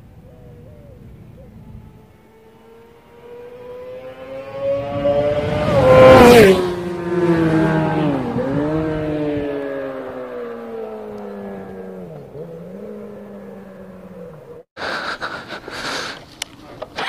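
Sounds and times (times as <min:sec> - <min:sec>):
motorcycle accelerating: 0:00.0 - 0:14.7.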